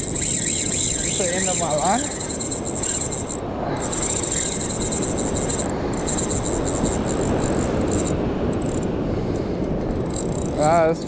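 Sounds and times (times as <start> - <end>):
fishing reel drag screaming: 0.0 - 8.9, 10.1 - 10.8
wind and surf: 0.0 - 11.0.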